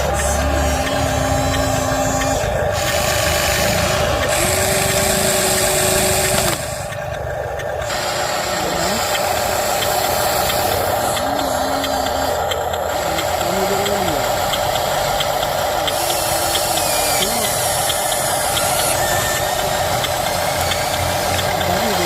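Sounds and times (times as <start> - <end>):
electric motor whines: 0.0 - 22.0
engine-like hum: 0.0 - 22.0.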